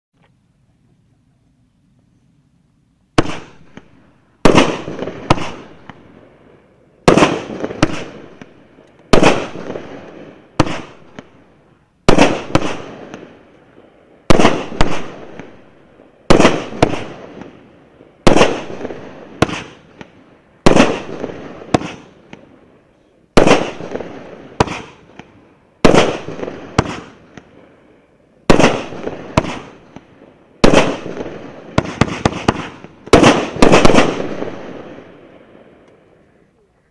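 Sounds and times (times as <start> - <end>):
firework bangs: 3.1 - 36.1.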